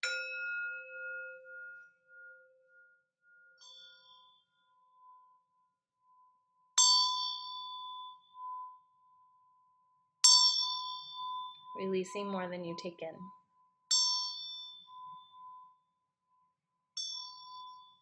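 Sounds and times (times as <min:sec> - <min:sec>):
lower singing bowl ringing: 0:00.0 - 0:12.4, 0:13.3 - 0:15.9, 0:16.9 - 0:18.0.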